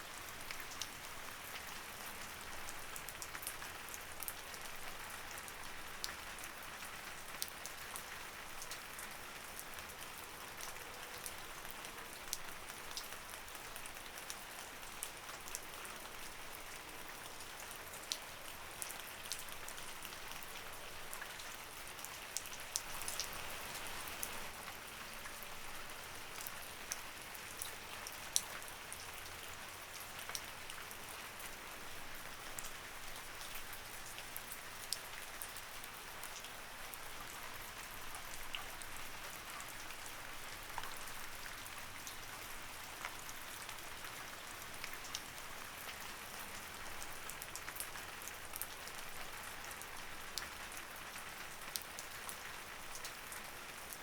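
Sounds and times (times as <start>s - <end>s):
raindrops ticking on a surface: 0.1s - 54.0s.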